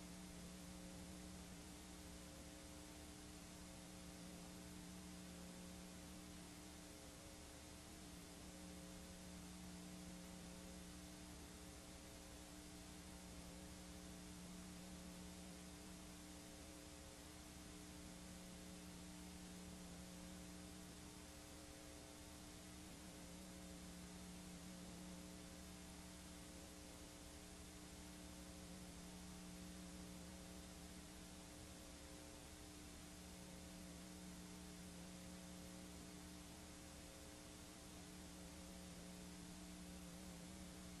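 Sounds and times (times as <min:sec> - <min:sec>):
faint electrical hum: 0:00.0 - 0:41.0
soft tape hiss: 0:00.0 - 0:41.0.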